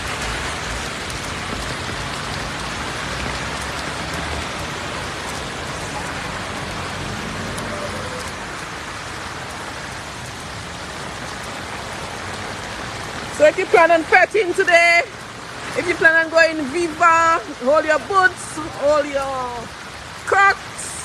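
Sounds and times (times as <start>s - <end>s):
heavy rain on a flooded street: 0.0s - 21.0s.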